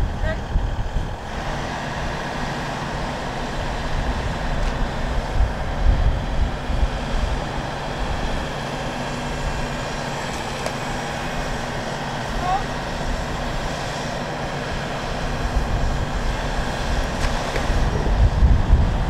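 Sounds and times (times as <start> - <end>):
pump engine humming: 0.0 - 19.0.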